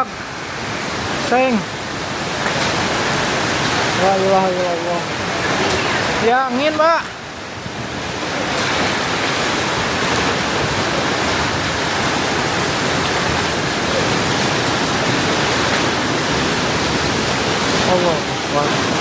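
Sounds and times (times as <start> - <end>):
strong wind and heavy rain: 0.0 - 19.0.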